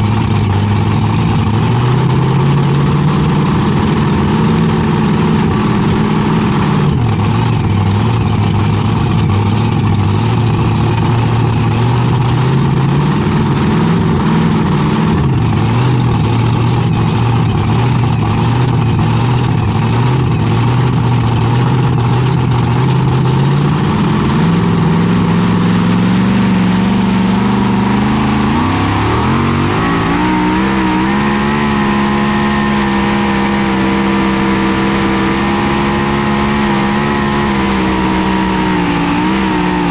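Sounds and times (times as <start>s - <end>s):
tractor engine revving: 0.0s - 39.9s.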